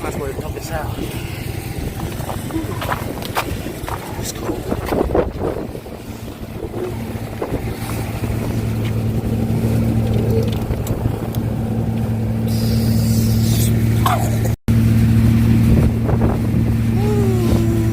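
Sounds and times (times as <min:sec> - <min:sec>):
engine humming: 0:00.0 - 0:17.9.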